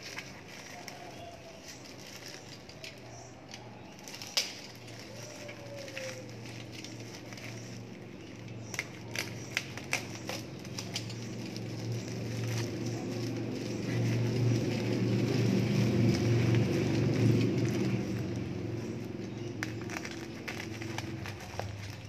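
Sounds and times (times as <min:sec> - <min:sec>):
plastic crinkling: 0:00.0 - 0:22.0.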